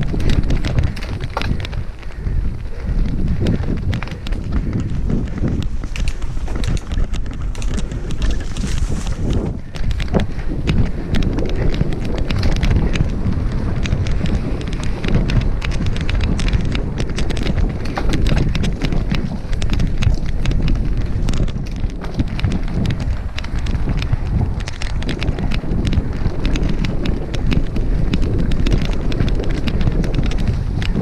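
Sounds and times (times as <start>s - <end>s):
bike clicks and rattles: 0.0s - 31.0s
tyres rolling over dirt: 0.0s - 31.0s
wind buffeting microphone: 0.0s - 31.0s.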